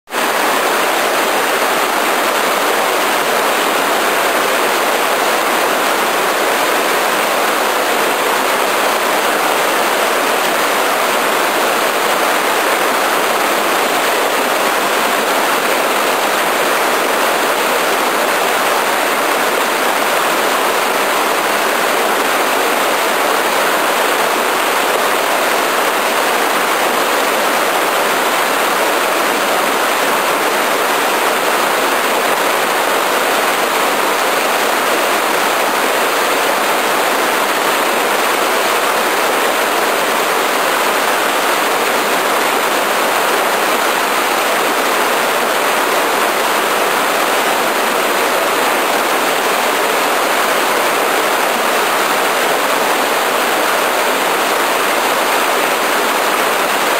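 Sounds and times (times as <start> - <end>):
waterfall rushing into pool: 0.1 - 56.9.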